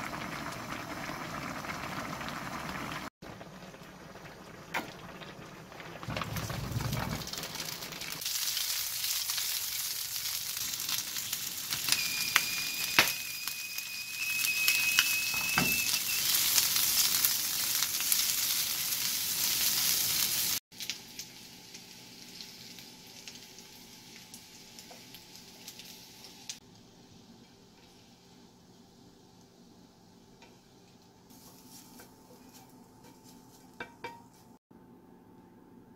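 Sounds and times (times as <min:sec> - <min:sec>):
sausages sizzling in oil: 0:00.0 - 0:34.6.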